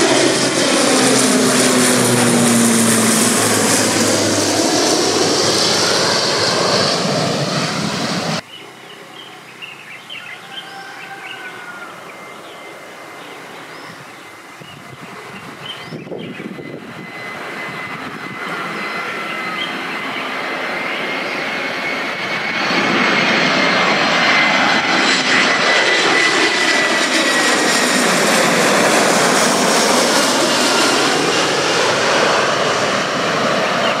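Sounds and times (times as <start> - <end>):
airliner jet engines: 0.0 - 10.0, 10.8 - 34.0
high engine whine: 0.0 - 10.3, 11.7 - 34.0.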